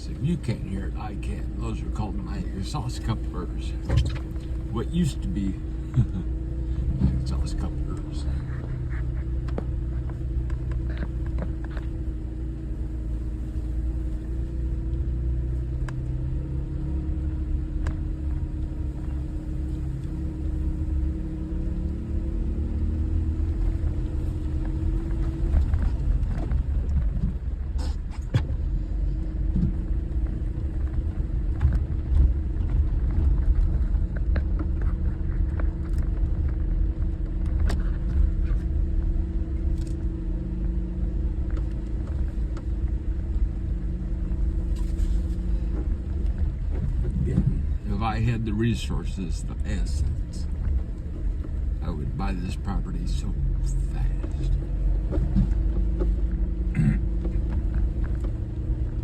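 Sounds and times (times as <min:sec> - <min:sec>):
engine rumble with raspy exhaust: 0:00.0 - 0:59.0.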